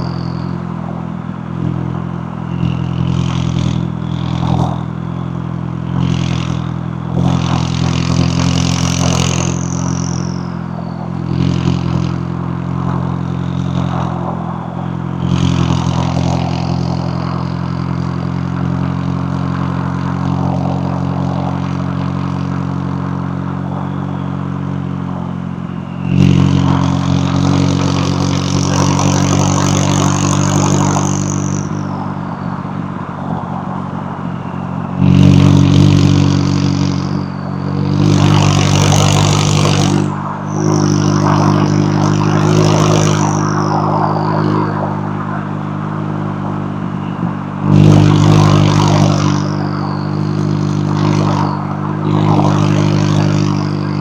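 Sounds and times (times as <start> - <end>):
car engine drone surging: 0.0 - 54.0
turbo whine: 0.0 - 54.0.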